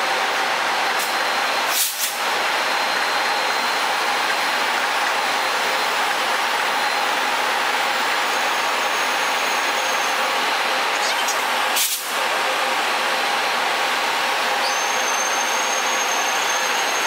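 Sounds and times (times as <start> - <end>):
train rushing at station: 0.0 - 17.0.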